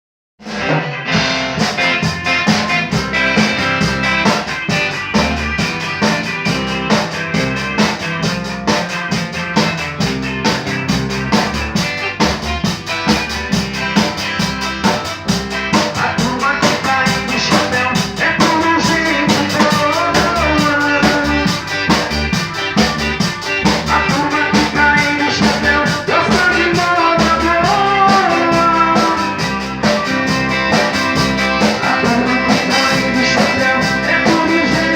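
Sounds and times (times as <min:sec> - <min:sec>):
drum kit beat: 0:00.4 - 0:34.9
guitar and bass: 0:00.4 - 0:34.9
lead melody with bending notes: 0:00.7 - 0:34.9.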